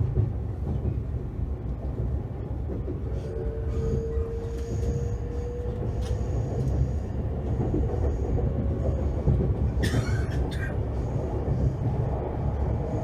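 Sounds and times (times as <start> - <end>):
train running gear rumble: 0.0 - 13.0.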